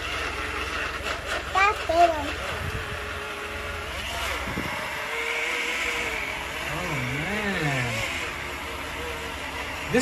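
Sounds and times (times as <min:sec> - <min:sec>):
blender motor whirring: 0:00.0 - 0:10.0.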